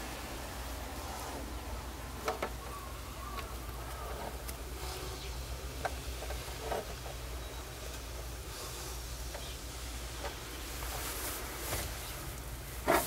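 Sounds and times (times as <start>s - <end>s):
faint rustling: 0.8s - 13.0s.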